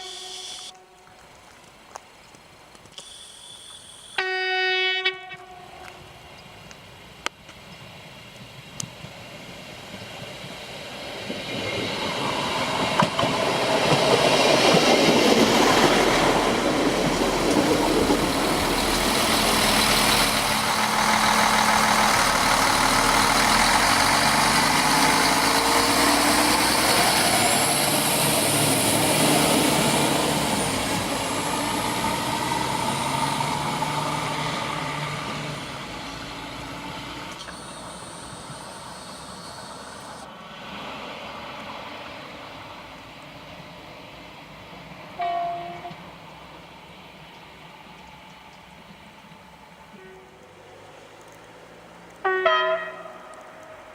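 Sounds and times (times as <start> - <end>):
train passing: 4.2 - 53.9.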